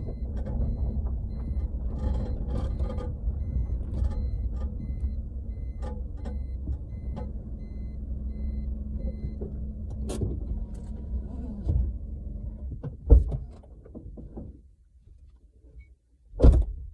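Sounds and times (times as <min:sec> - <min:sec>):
car driving rumble: 0:00.0 - 0:16.9.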